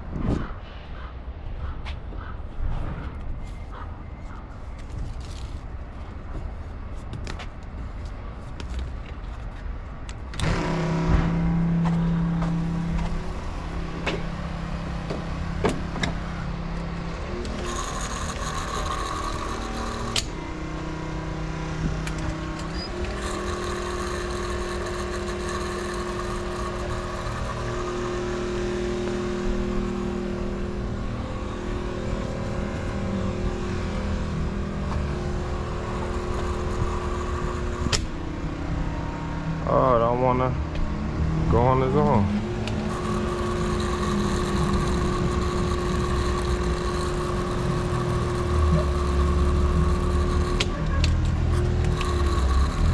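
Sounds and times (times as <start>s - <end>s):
truck diesel engine running: 10.4s - 52.9s.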